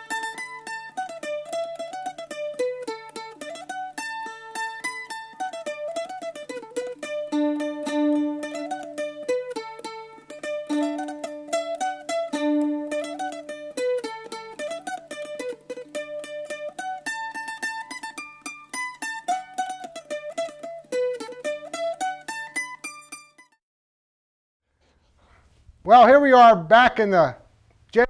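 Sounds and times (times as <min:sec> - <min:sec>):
plucked string melody: 0:00.0 - 0:23.6.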